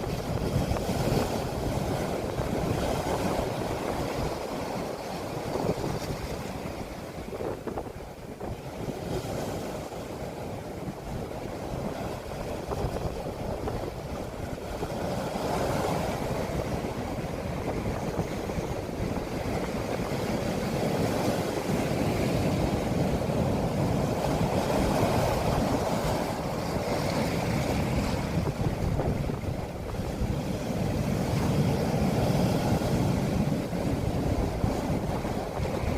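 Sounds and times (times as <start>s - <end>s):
sea waves breaking: 0.0s - 35.9s
wind on microphone: 0.0s - 35.9s.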